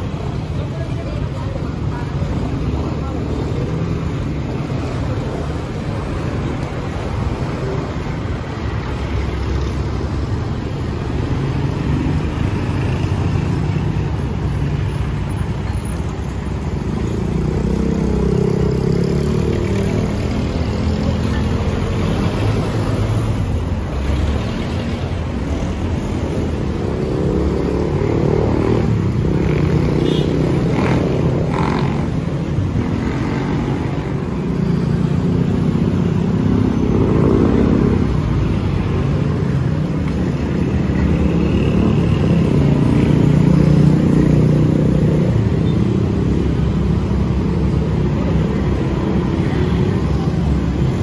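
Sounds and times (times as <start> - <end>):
cars passing: 0.0 - 51.0.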